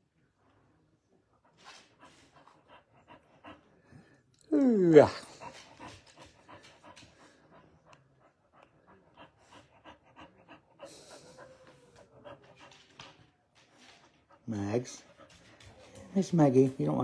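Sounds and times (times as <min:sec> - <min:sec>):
dog panting: 0:00.5 - 0:04.3, 0:04.9 - 0:17.0.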